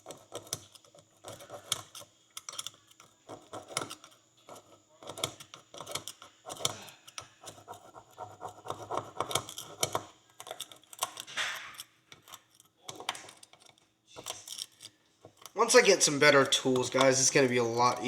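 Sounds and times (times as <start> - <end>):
knife scraping metal horseshoe: 0.0 - 15.7.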